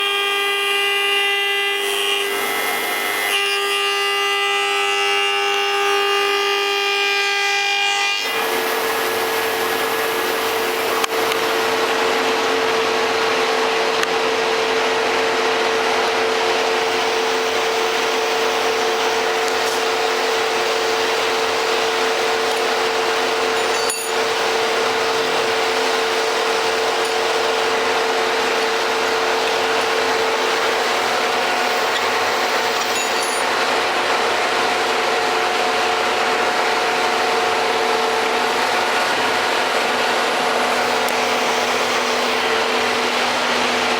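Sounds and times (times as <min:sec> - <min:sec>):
spindle moulder motor whine: 0:00.0 - 0:43.9.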